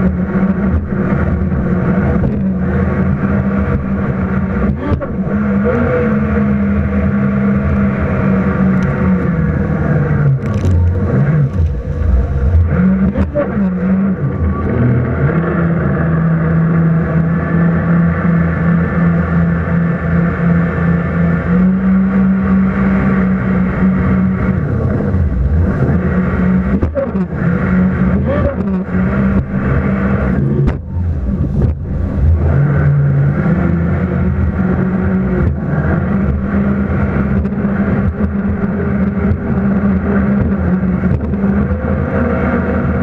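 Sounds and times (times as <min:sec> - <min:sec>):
jet ski engine revving: 0:00.0 - 0:43.0.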